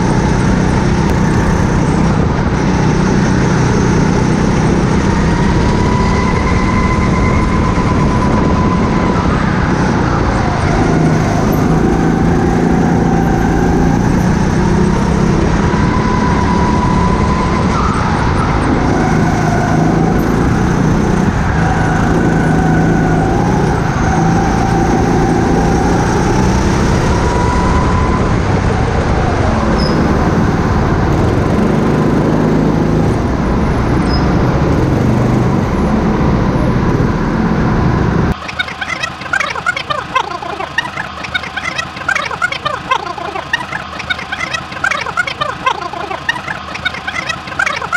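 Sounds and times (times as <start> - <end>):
go-kart engine running: 0.0 - 47.9.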